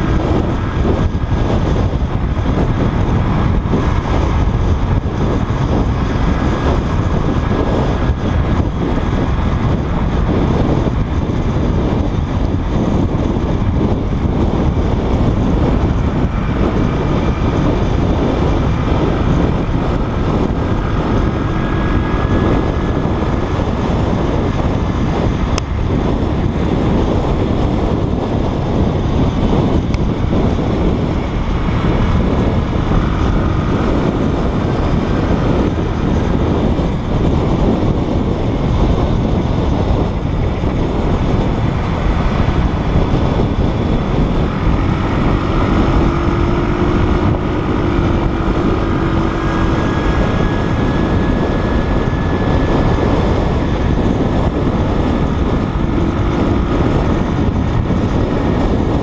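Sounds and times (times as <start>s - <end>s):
motorbike running: 0.0s - 59.0s
surrounding traffic: 0.0s - 59.0s
wind rushing on microphone: 0.0s - 59.0s.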